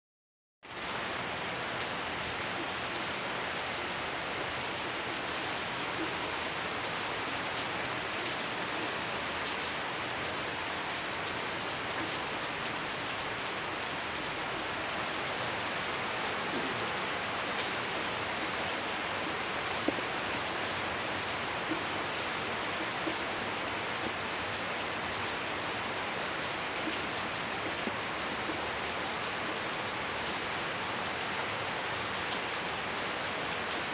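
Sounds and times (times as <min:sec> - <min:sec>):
heavy rain on paving and leaves: 0:00.6 - 0:33.9.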